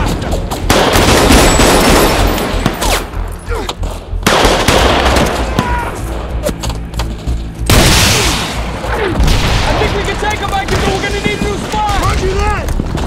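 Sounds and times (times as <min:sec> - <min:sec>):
film score with low drone: 0:00.0 - 0:13.0.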